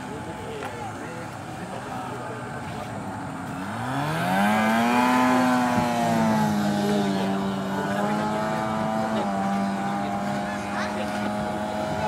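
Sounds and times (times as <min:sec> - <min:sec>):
speedboat engine at high revs: 0:00.0 - 0:12.0.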